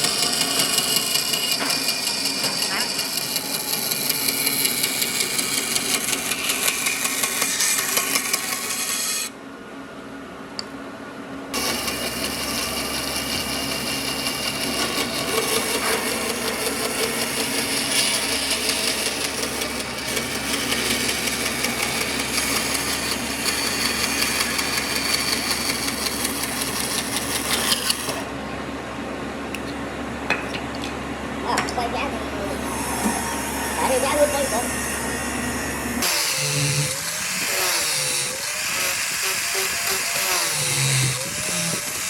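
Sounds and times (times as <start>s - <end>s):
power tool ticking and humming: 0.0s - 9.2s, 11.5s - 28.3s, 32.7s - 42.0s.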